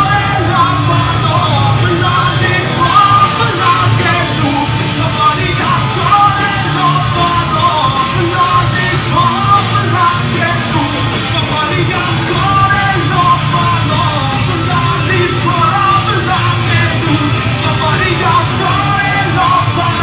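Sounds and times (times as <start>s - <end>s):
rock band playing: 0.0s - 20.0s
shouted sung vocal: 0.0s - 20.0s.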